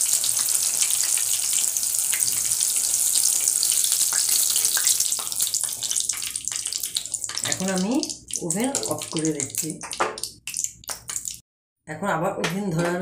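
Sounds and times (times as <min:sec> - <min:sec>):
hot oil sizzling: 0:00.0 - 0:11.4
oil crackling and popping: 0:00.0 - 0:11.4.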